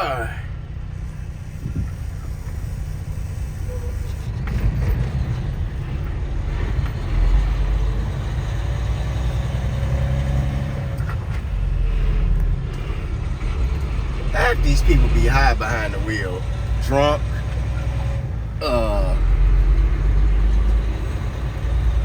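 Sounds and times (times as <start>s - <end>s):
road noise: 0.0s - 22.0s
truck diesel engine rumble: 0.0s - 22.0s.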